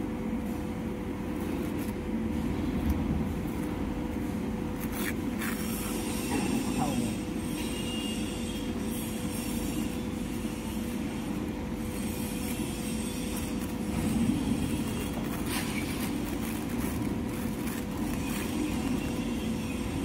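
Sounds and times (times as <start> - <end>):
factory machinery humming: 0.0 - 20.0.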